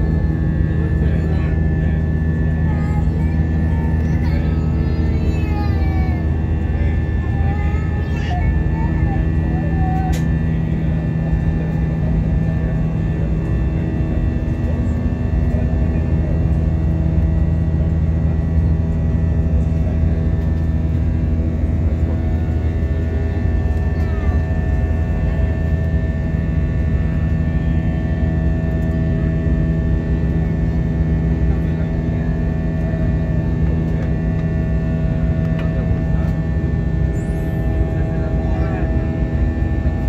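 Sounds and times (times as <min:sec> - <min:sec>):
jet engine drone inside cabin: 0:00.0 - 0:40.0.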